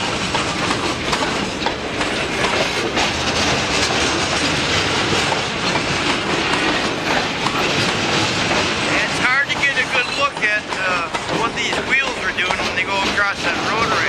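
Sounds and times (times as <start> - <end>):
freight train rolling: 0.0 - 14.0
wheels clacking over rail joints: 0.0 - 14.0.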